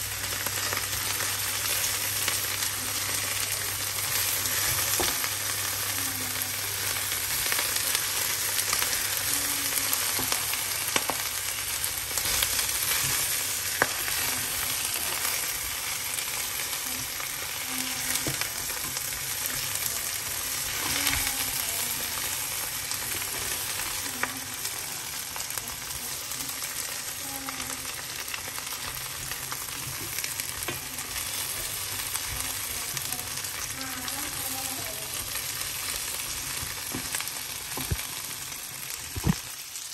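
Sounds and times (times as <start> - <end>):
prawns sizzling in oil: 0.0 - 39.9.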